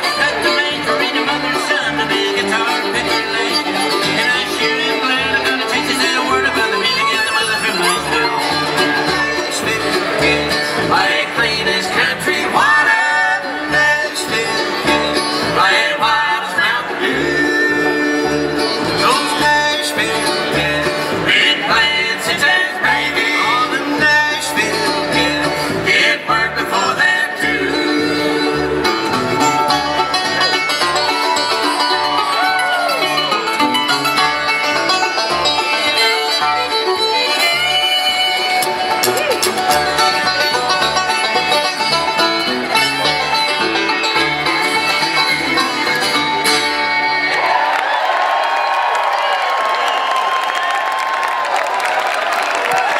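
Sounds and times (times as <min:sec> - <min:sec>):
upright bass: 0:00.0 - 0:47.3
acoustic guitar: 0:00.0 - 0:47.4
five-string banjo: 0:00.0 - 0:47.5
mandolin: 0:00.0 - 0:47.6
fiddle: 0:00.0 - 0:47.8.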